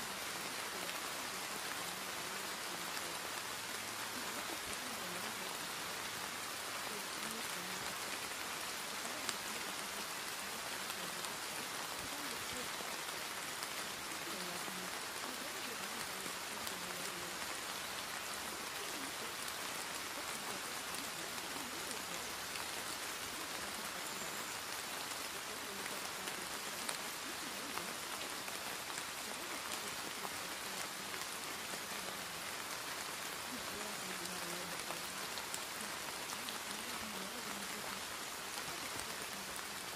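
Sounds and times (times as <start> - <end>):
faint voice murmuring: 0.0 - 39.9
steady rain: 0.0 - 39.9.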